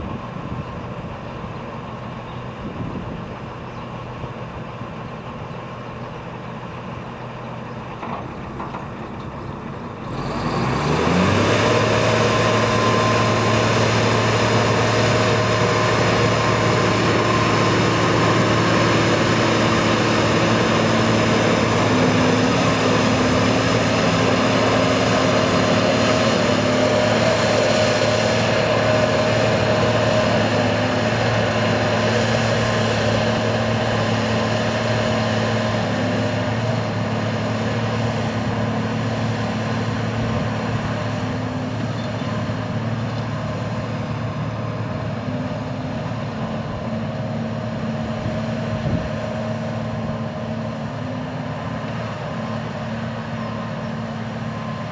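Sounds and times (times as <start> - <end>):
tracked rig engine running: 0.0 - 54.9.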